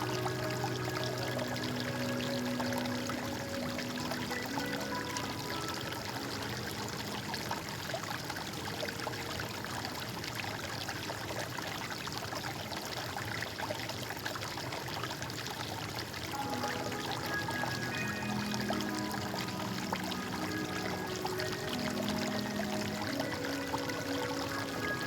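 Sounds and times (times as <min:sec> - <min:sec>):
stream water trickling: 0:00.0 - 0:25.0.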